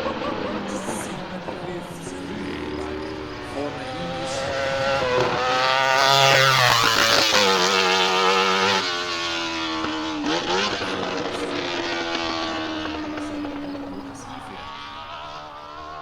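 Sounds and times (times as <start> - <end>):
racing engine at high revs: 0.0 - 16.0.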